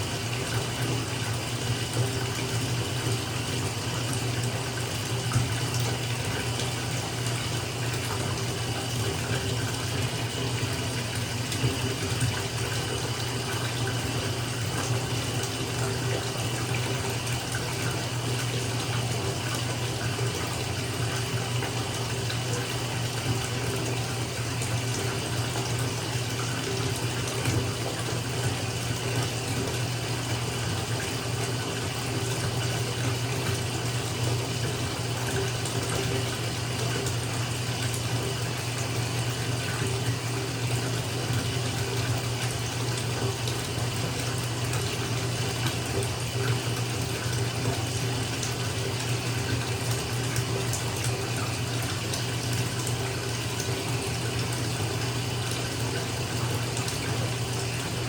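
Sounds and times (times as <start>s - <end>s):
water running into bathtub: 0.0s - 58.0s.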